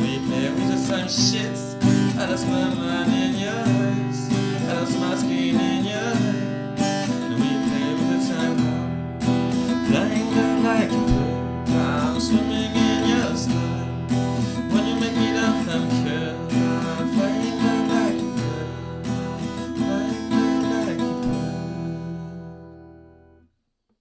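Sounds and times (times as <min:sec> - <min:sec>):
strummed acoustic guitar: 0:00.0 - 0:23.4.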